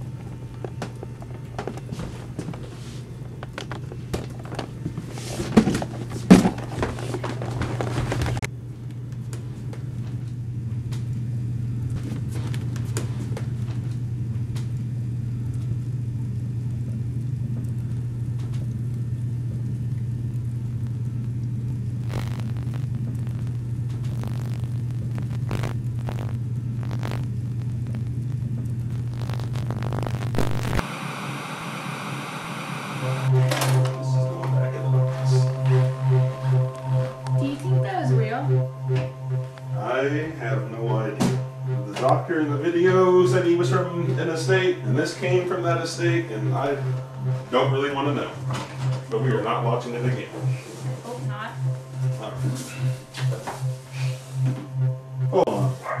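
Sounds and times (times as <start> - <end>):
low rumbling hum: 0.0 - 56.0.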